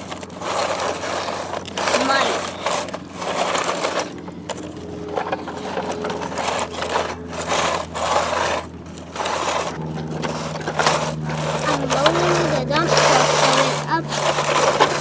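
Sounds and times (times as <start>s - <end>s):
steady low hum: 0.0s - 15.0s
toy trucks scraping dirt: 0.0s - 15.0s.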